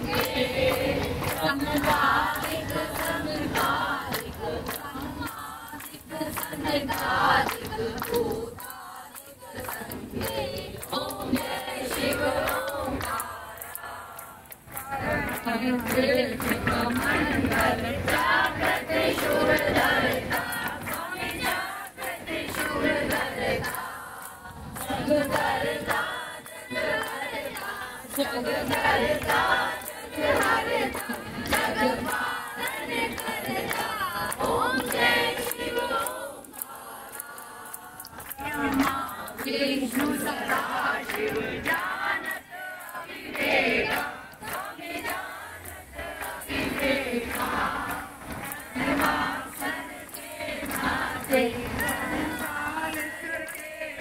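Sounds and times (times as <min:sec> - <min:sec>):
group singing devotional chant: 0:00.0 - 0:54.0.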